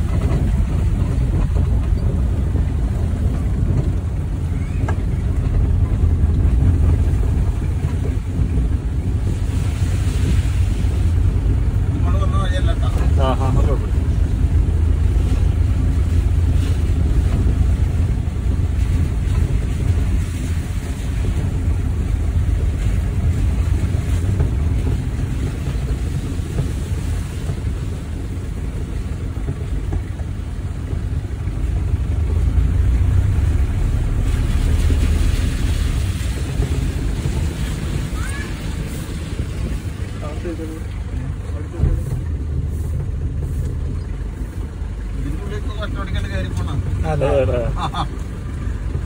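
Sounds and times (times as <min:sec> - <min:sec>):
wind noise: 0:00.0 - 0:45.2
car engine and road rumble: 0:00.0 - 0:49.0.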